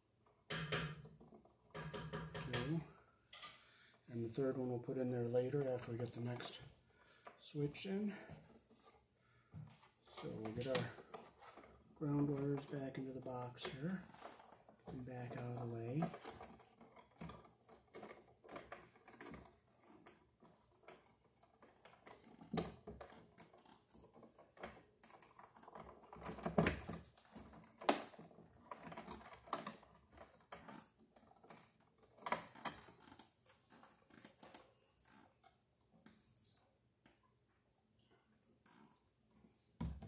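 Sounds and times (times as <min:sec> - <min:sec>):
wires clicking and scraping: 0:00.2 - 0:40.0.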